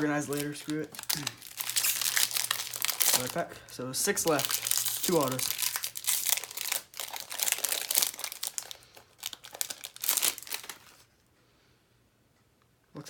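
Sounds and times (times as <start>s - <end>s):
foil wrapper crinkling: 0.0s - 11.1s.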